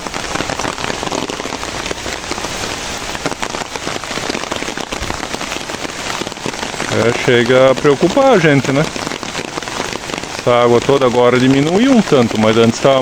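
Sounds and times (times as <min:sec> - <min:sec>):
rain pattering on wet ground: 0:00.0 - 0:13.0
water rushing along gutter: 0:00.0 - 0:13.0.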